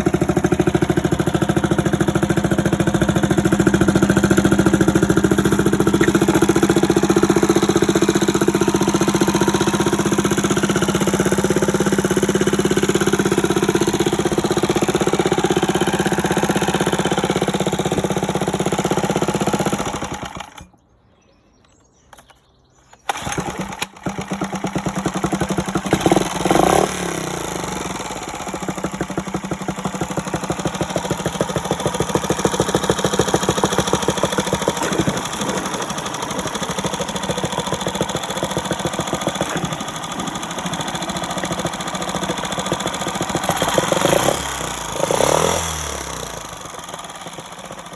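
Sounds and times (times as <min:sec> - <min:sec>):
outboard motor running: 0:00.0 - 0:20.7, 0:23.1 - 0:47.9.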